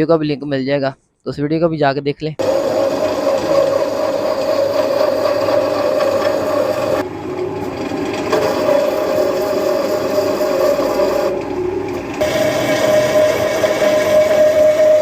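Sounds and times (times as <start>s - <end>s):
cutting machine hum: 2.4s - 15.0s
metal scraping and rasping: 2.4s - 15.0s.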